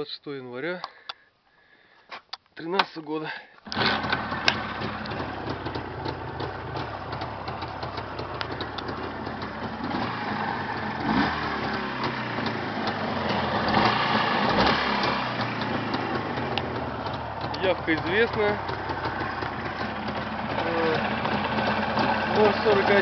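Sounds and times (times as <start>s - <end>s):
motorcycle engine idling: 3.7s - 23.0s.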